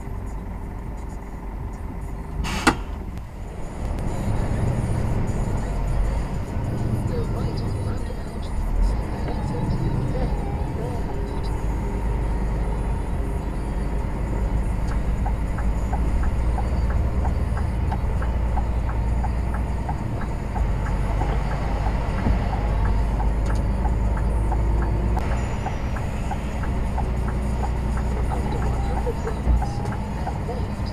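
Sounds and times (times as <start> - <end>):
lorry engine drone from cab: 0.0 - 30.9
regular ticking: 3.1 - 30.9.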